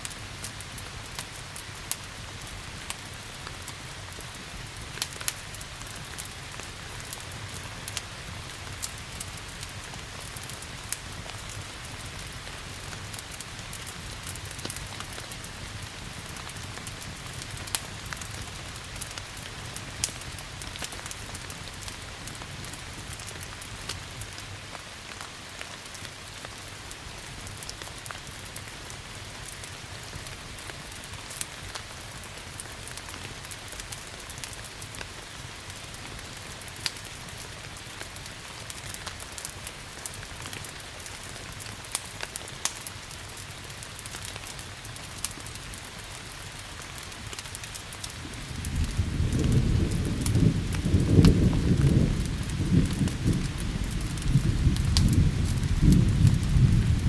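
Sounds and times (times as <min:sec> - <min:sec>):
rain hiss: 0:00.0 - 0:57.0
wood fire crackling and popping: 0:00.0 - 0:57.0.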